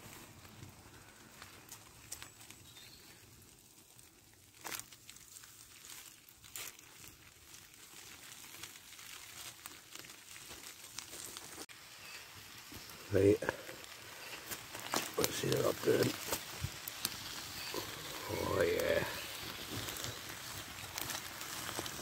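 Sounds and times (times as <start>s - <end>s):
aluminium foil crinkling: 0.0s - 22.0s
chicken sizzling: 0.0s - 22.0s
sharp crackles: 0.0s - 22.0s.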